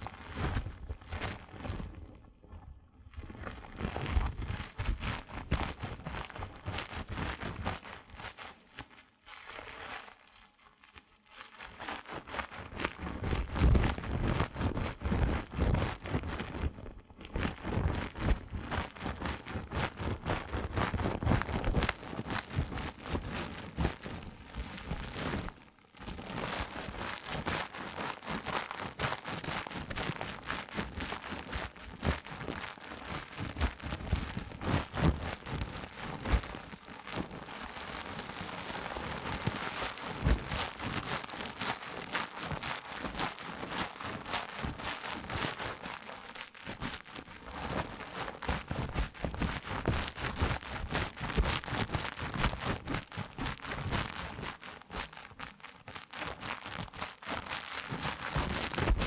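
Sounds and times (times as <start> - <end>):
crinkling and rustling handling: 0.0 - 59.0.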